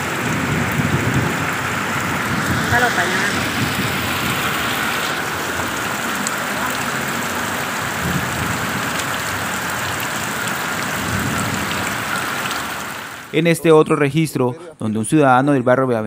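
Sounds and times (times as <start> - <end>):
heavy rain falling: 0.0 - 13.4.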